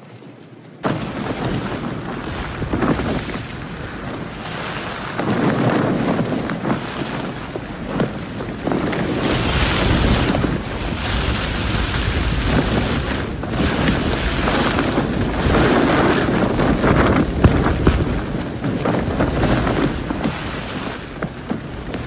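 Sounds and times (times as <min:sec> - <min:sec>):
tent fabric flapping: 0:00.0 - 0:22.0
gusting wind roar: 0:00.8 - 0:22.0.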